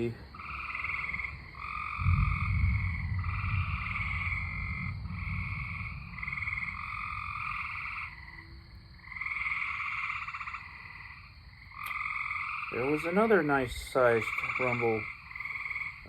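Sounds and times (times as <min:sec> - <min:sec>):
low rumble of thunder: 0:00.0 - 0:16.0
tree frogs trilling: 0:00.0 - 0:16.0.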